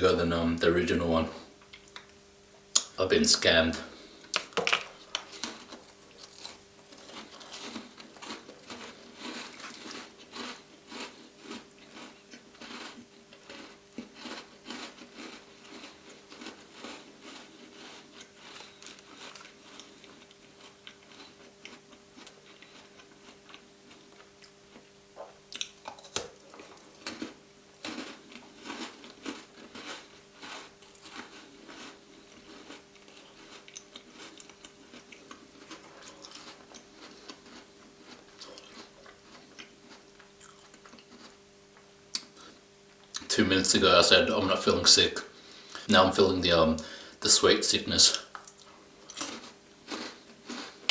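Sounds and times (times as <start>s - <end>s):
chewing crunchy biscuits: 3.7s - 50.9s.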